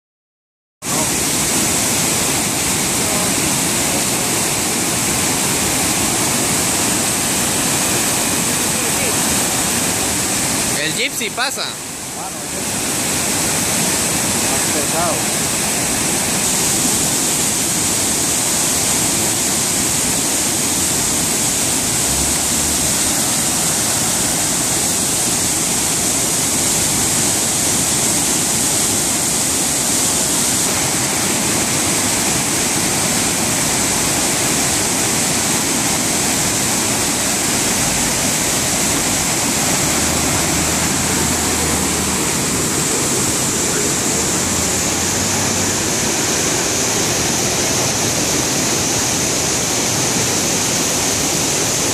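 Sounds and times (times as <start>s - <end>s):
water rushing down rocks: 0.8s - 51.9s.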